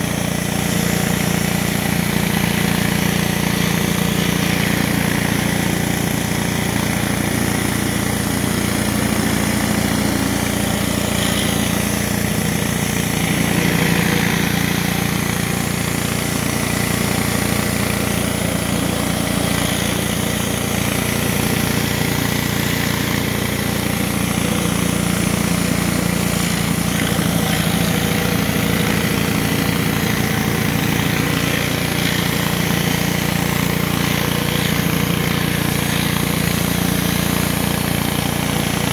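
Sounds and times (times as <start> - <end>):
pressure washer engine running: 0.0 - 38.9
water jets hissing on concrete: 0.0 - 38.9.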